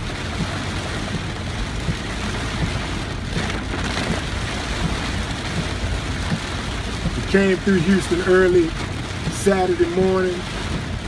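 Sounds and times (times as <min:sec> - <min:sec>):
heavy rain on a car: 0:00.0 - 0:11.0.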